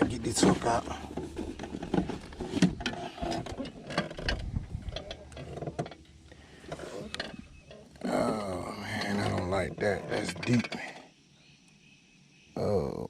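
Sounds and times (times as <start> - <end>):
handling clicks and knocks: 0.0 - 11.0.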